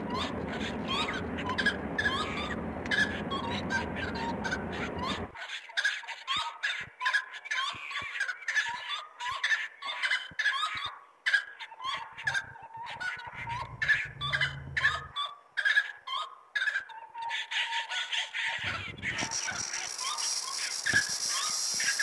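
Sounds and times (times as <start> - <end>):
birds chirping and chattering: 0.0 - 22.0.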